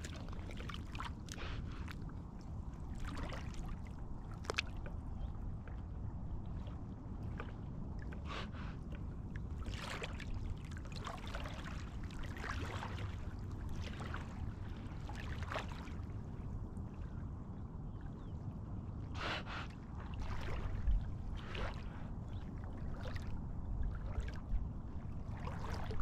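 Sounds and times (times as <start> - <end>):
water splashing and sloshing: 0.0 - 17.3, 17.9 - 26.0.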